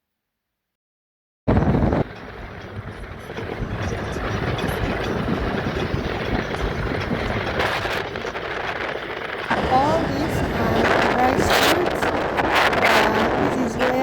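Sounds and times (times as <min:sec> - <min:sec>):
vehicle road and engine noise: 0:01.5 - 0:14.0.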